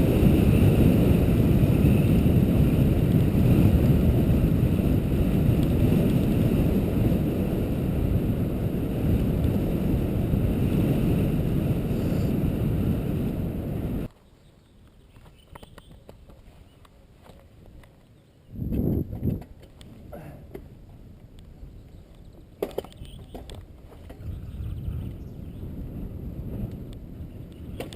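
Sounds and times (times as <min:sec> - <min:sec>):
wind buffeting microphone: 0:00.0 - 0:14.1, 0:18.4 - 0:27.9.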